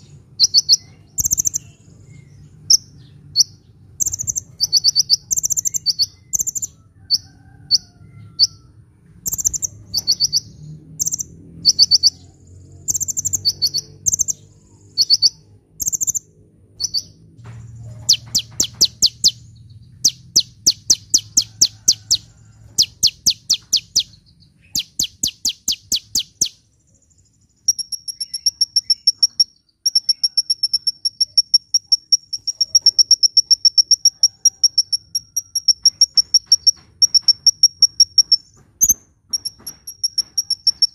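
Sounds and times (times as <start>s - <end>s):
bird clicking trills: 0.0s - 1.7s, 2.7s - 8.6s, 9.2s - 16.2s, 18.0s - 19.4s, 20.0s - 26.6s, 27.6s - 40.9s
bird chirping: 0.0s - 40.9s.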